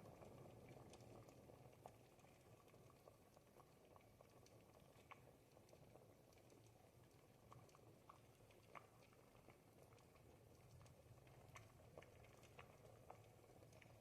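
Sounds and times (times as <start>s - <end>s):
soup bubbling in a pot: 0.0s - 14.0s.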